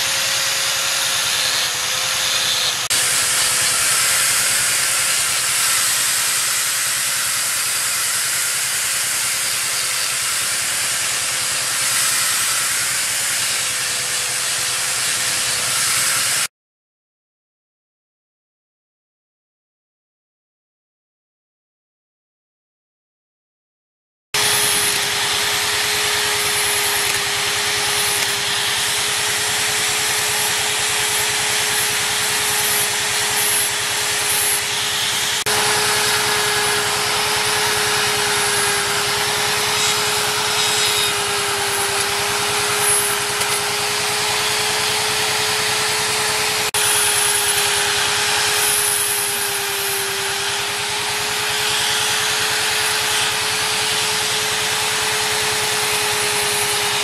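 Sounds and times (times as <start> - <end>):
rotary tool grinding wood: 0.0 - 16.5, 24.4 - 57.0.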